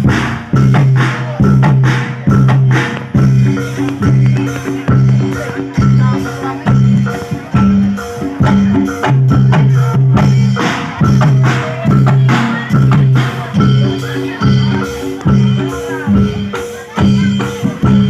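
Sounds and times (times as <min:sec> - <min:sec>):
steady drum rhythm: 0:00.0 - 0:18.0.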